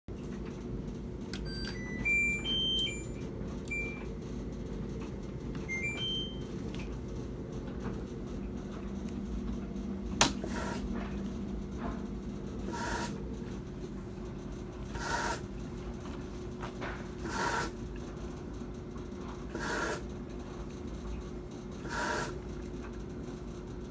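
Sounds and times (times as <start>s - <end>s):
steady low hum: 0.2s - 23.9s
washing machine beeping: 0.6s - 23.9s.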